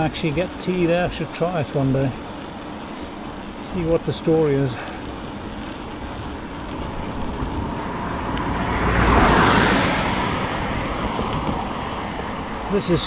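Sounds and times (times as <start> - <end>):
road and wind noise: 0.0 - 13.0
car passing: 2.3 - 13.0.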